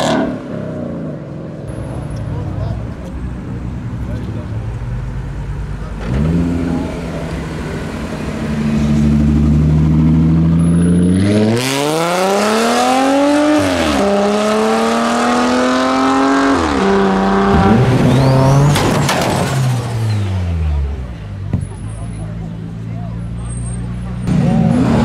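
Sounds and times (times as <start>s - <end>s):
another car engine: 0.0s - 25.0s
car engine revving: 4.1s - 25.0s.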